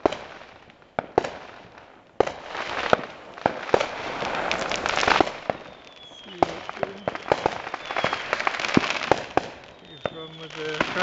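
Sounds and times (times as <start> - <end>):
fireworks bangs: 0.0 - 11.0
fireworks hissing rush: 1.3 - 11.0.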